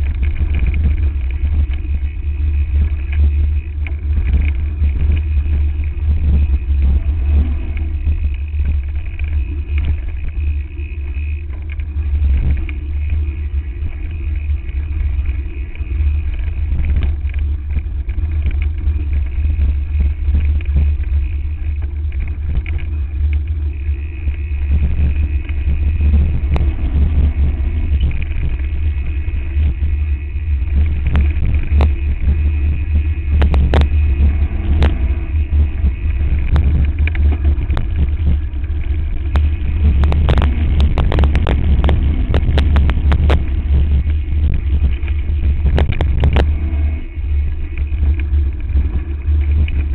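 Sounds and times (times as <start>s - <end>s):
bike rattling and knocking: 0.0s - 46.4s
wind buffeting microphone: 0.0s - 49.9s.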